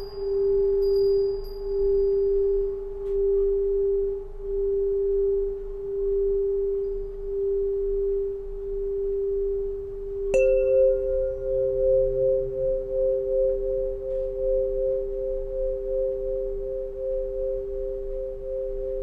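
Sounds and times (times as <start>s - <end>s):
tuning pipe ringing pure tone: 0.0s - 19.0s.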